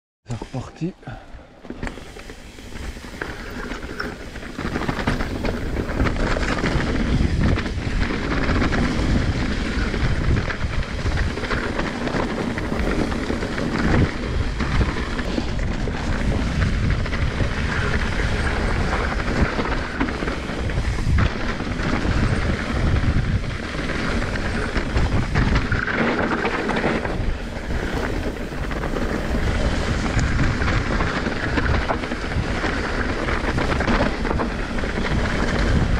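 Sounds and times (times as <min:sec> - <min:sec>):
wind buffeting microphone: 0:01.1 - 0:35.9
bike knocks and rattles: 0:01.6 - 0:35.9
tyres rumbling over dirt: 0:01.7 - 0:35.9.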